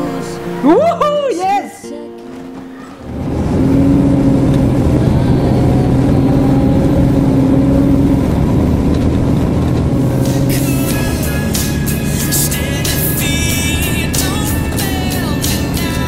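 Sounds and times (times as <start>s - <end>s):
bus engine droning: 0.0s - 1.1s, 2.3s - 16.0s.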